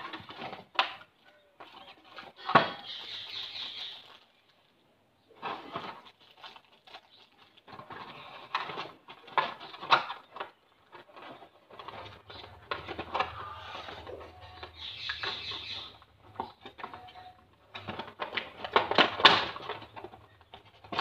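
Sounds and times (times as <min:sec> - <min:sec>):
plastic packaging crinkling: 0:00.0 - 0:04.8, 0:05.4 - 0:21.0.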